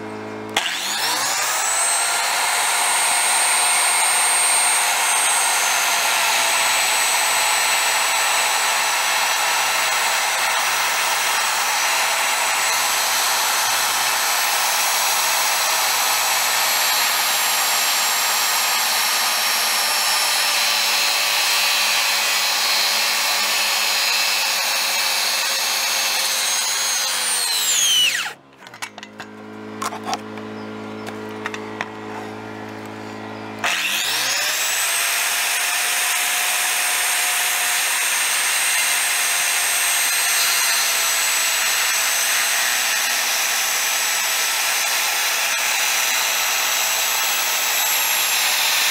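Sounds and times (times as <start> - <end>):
circular saw cutting wood: 0.0 - 48.9
generator hum: 0.0 - 48.9.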